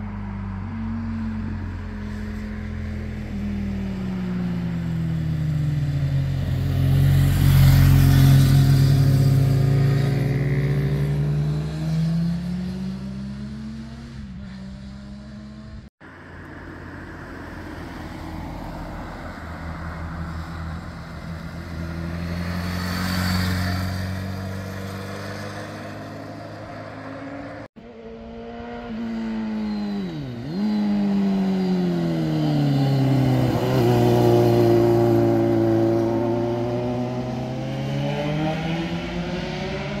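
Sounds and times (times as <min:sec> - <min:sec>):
motorcycles passing: 0:00.0 - 0:40.0.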